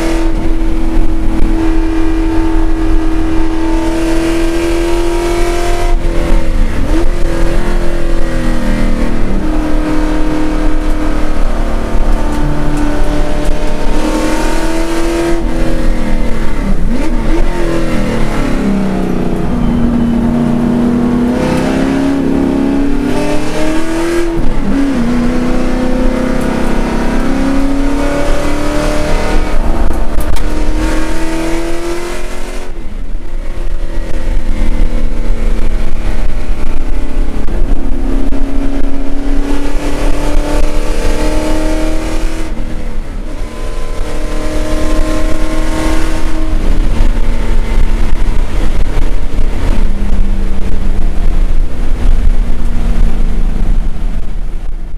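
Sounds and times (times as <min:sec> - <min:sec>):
race car engine at full load: 0:00.0 - 0:54.9.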